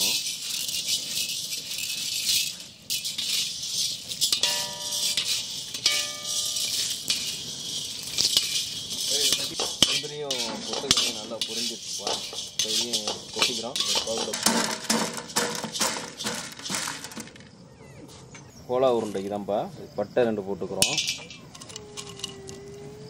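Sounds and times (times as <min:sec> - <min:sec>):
nuts rattling in an iron pan: 0:00.0 - 0:17.5, 0:20.8 - 0:22.6.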